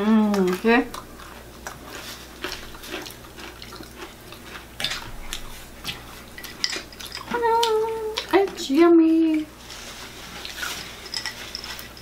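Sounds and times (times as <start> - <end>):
chewing crispy fried chicken: 0.0 - 11.1.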